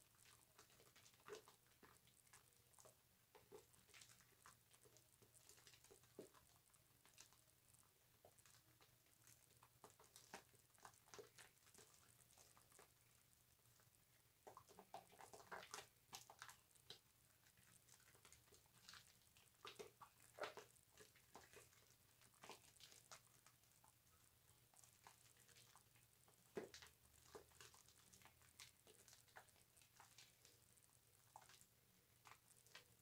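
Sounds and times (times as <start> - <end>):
soap lather squishing: 0.0 - 33.0.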